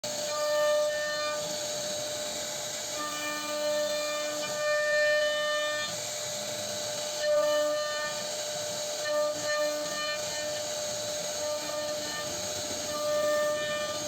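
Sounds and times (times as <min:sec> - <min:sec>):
router spindle whining: 0:00.1 - 0:14.0.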